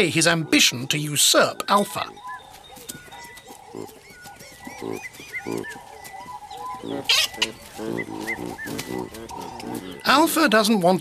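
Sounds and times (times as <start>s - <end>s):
baboons grunting and calling: 0.0s - 10.7s
small birds chirping: 0.0s - 11.0s.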